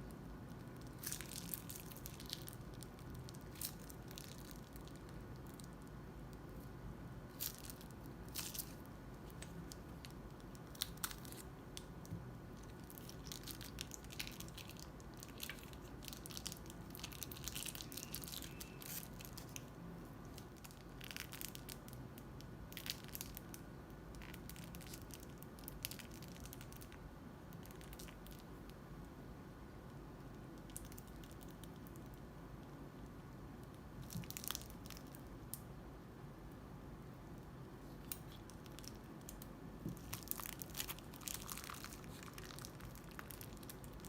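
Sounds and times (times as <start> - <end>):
crunchy slime crackling: 0.0 - 28.6, 33.7 - 35.6, 37.8 - 44.0.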